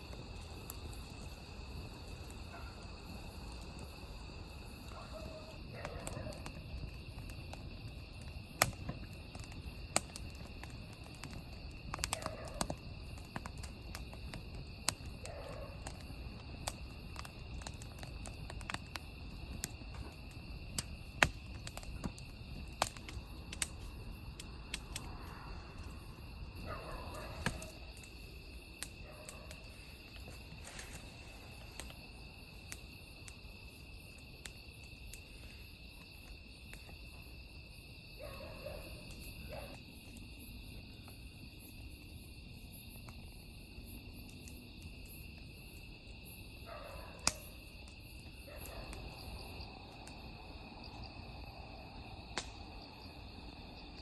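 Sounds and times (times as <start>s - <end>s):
crickets chirping: 0.0s - 54.0s
wood fire crackling and popping: 0.0s - 54.0s.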